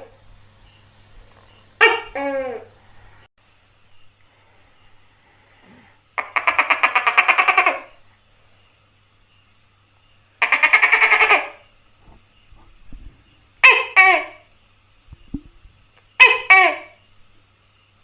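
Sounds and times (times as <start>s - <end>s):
gecko rattling call: 0.0s - 18.0s.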